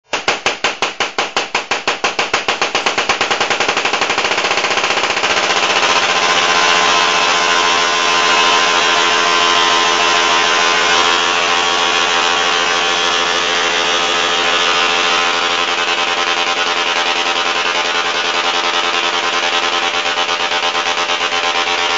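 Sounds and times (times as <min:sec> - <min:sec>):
tesla coil sparks buzzing: 0:01.0 - 0:21.9.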